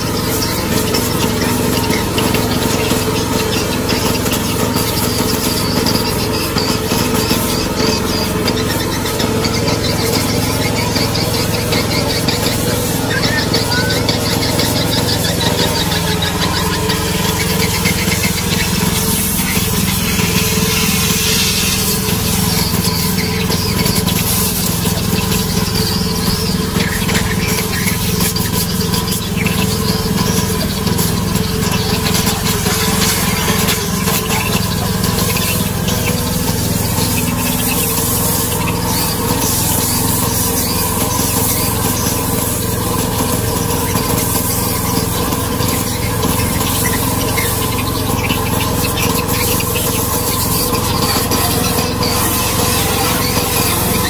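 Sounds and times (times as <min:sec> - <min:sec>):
high-pressure water jet hissing: 0:00.0 - 0:54.0
pressure washer pump humming: 0:00.0 - 0:54.0.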